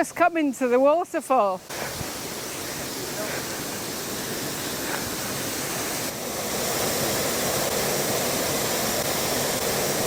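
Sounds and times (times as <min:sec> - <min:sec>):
waterfall rushing: 0:01.6 - 0:10.0.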